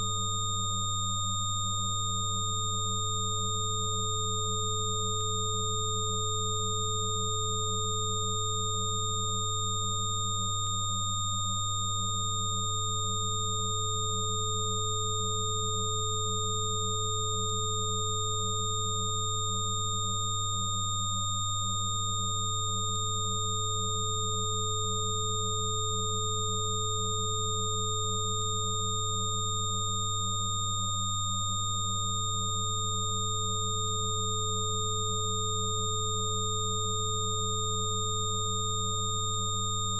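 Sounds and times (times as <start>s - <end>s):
low sine hum: 0.0s - 39.9s.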